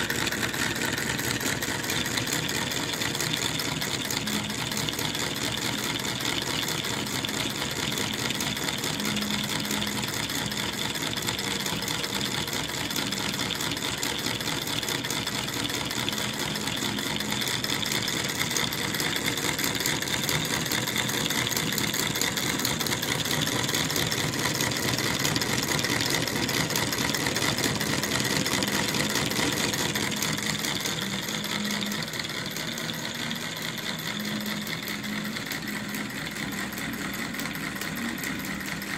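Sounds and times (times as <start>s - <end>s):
model engine mechanical clatter: 0.0s - 38.9s.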